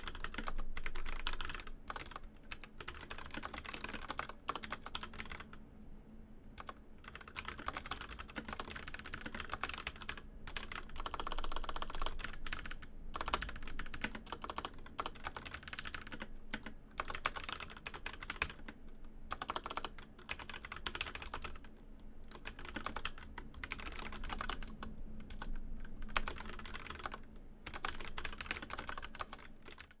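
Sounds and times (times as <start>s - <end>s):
mechanical keyboard typing: 0.0s - 5.5s, 6.6s - 21.7s, 22.3s - 30.0s.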